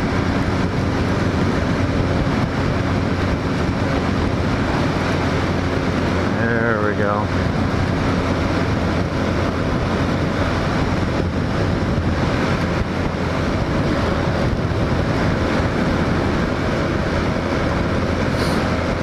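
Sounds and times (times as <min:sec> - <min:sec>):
motorcycle engine cruising: 0:00.0 - 0:19.0
wind rushing over microphone: 0:00.0 - 0:19.0.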